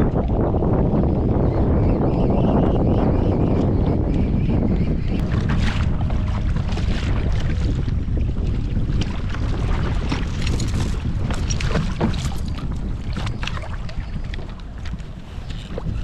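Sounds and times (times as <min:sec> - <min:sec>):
water slapping around kayak: 0:00.0 - 0:16.0
wind buffeting microphone: 0:00.0 - 0:16.0.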